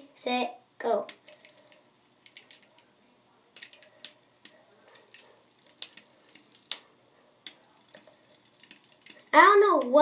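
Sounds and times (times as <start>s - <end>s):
fidget spinner clicking and rattling: 0.9s - 10.0s.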